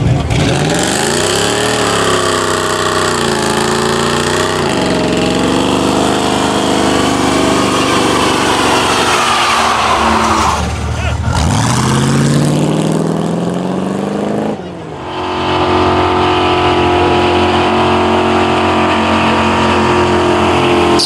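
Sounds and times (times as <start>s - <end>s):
car engine revving high: 0.0s - 21.0s.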